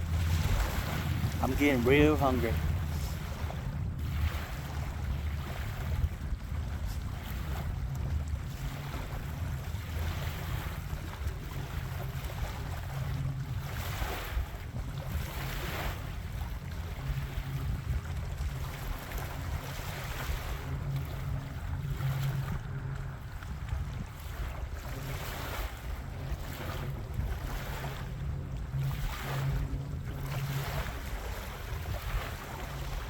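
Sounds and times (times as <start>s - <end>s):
gusts rushing over water: 0.0s - 33.0s
wind buffeting microphone: 0.0s - 33.0s.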